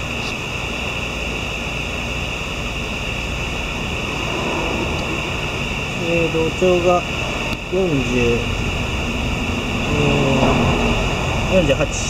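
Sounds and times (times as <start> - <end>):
high-pitched whine: 0.0 - 12.0
mechanical hum and hiss: 0.0 - 12.0.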